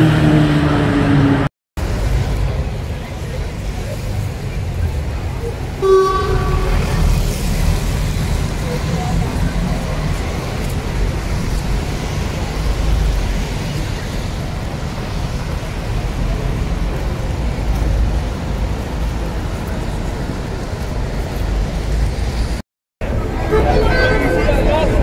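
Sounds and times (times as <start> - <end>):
bus passing: 0.0 - 25.0
street traffic rumble: 0.0 - 25.0.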